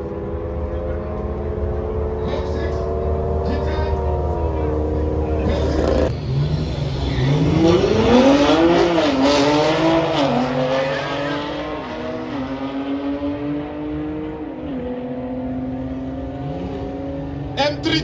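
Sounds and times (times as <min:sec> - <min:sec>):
car engine revving up with upshifts: 0:00.0 - 0:18.0.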